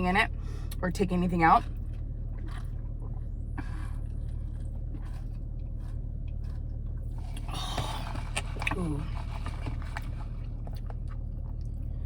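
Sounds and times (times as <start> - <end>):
steady low hum: 0.0 - 12.0
person chewing food: 1.8 - 12.0.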